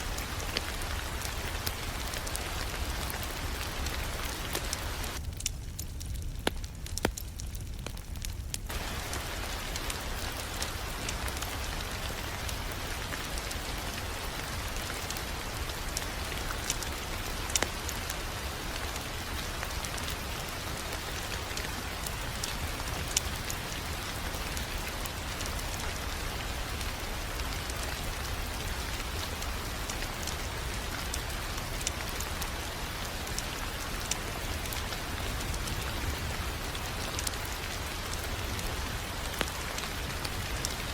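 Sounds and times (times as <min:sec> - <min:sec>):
fire popping and snapping: 0:00.0 - 0:40.9
wood fire crackling: 0:00.0 - 0:40.9.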